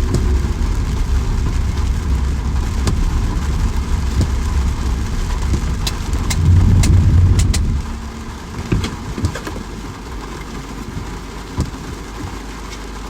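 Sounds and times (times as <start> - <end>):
loud low rumble: 0.0 - 10.7
rain falling steadily: 0.0 - 13.0.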